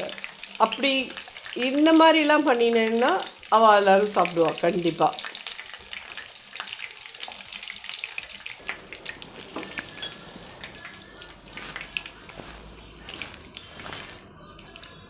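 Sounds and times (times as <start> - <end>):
eggplant frying in oil: 0.0 - 15.0
oil crackling and popping: 0.0 - 15.0.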